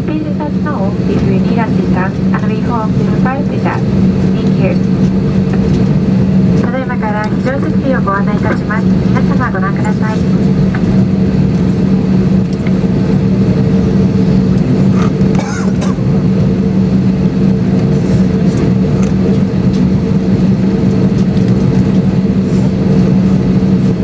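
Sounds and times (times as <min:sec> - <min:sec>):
airplane cabin hum: 0:00.0 - 0:24.0.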